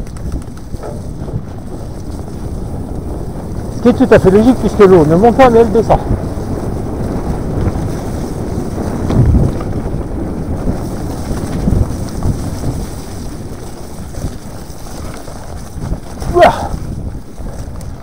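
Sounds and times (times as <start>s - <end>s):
bike jolts: 0.0s - 18.0s
wind over microphone: 0.0s - 18.0s.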